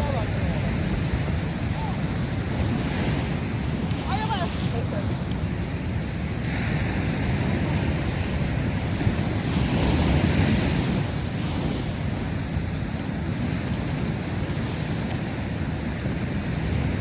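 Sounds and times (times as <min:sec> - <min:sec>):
sea waves washing ashore: 0:00.0 - 0:17.0
wind buffeting microphone: 0:00.0 - 0:17.0.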